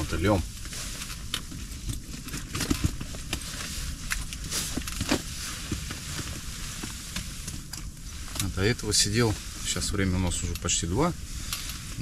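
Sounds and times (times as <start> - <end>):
clothing rustling and clicks: 0.0 - 12.0
wind rumbling against tent: 0.0 - 12.0.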